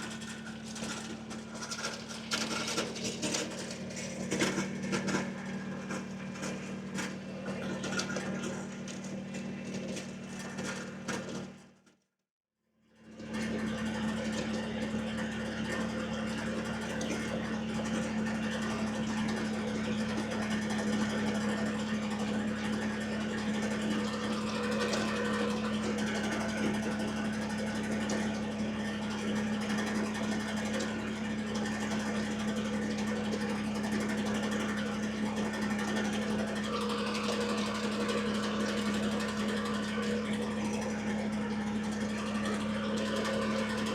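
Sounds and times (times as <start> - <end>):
tractor diesel engine running: 0.0 - 11.8, 13.1 - 43.9.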